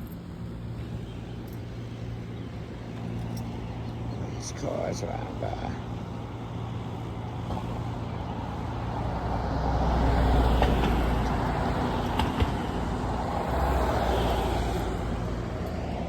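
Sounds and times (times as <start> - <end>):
cars passing on road: 0.0 - 16.0.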